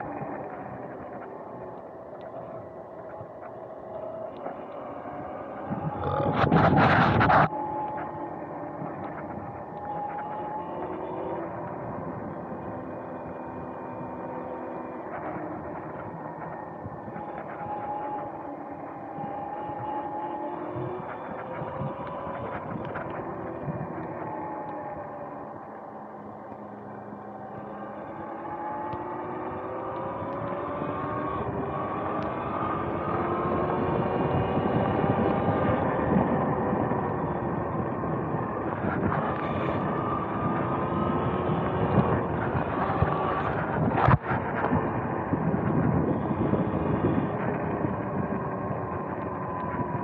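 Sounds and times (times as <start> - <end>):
electric motorbike motor whining: 0.0 - 50.0
wind noise: 0.0 - 50.0.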